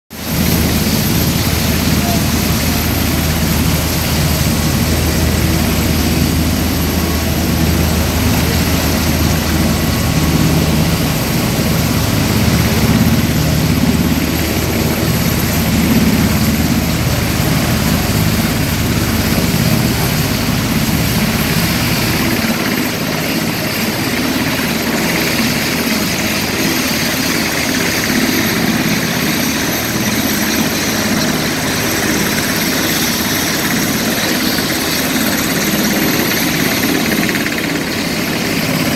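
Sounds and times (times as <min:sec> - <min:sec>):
deep aircraft engine rumble: 0:00.2 - 0:38.9.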